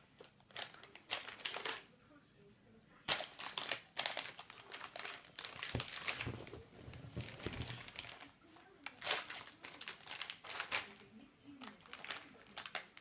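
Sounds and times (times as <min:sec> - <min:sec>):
crisp packet crinkling: 0:00.2 - 0:01.8, 0:03.1 - 0:06.6, 0:07.2 - 0:13.0.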